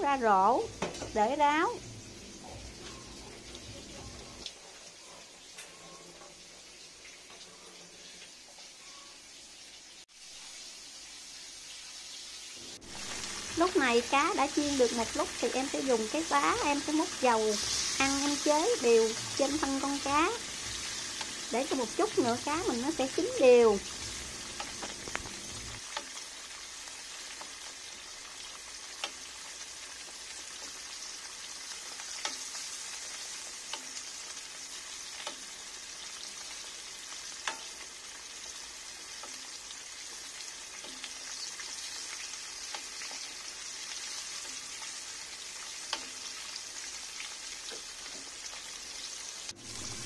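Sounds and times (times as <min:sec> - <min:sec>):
oil sizzling with fish frying: 0:00.0 - 0:50.0.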